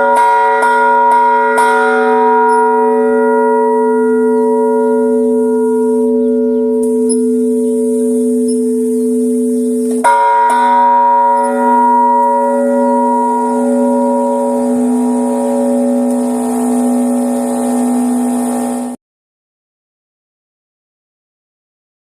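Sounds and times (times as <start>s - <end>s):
church bell ringing: 0.0s - 19.0s.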